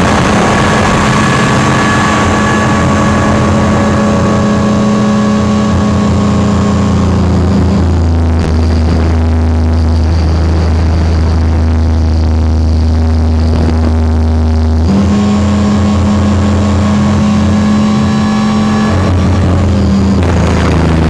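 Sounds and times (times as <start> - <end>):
rc helicopter rotor drone: 0.0 - 21.0.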